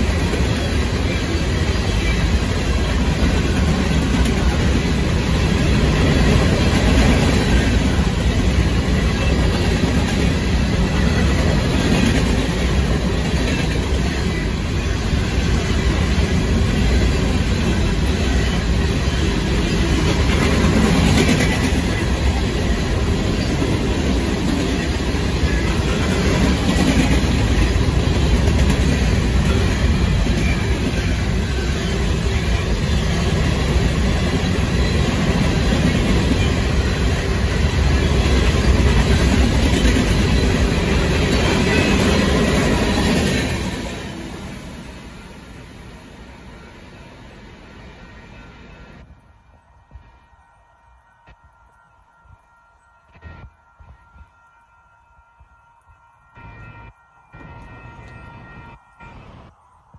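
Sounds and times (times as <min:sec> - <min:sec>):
steel train wheels rumbling on rails: 0:00.0 - 0:59.9.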